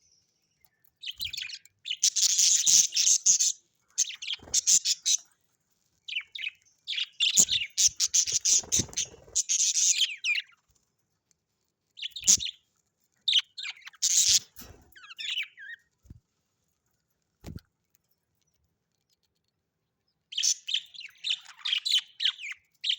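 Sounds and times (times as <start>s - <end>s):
parrots chirping and chattering: 0.4s - 10.7s, 11.8s - 15.9s, 18.3s - 22.9s.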